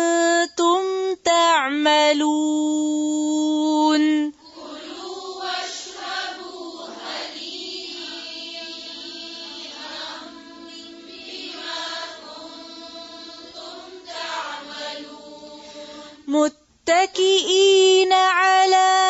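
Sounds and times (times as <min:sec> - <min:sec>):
woman chanting melodically: 0:00.0 - 0:19.0.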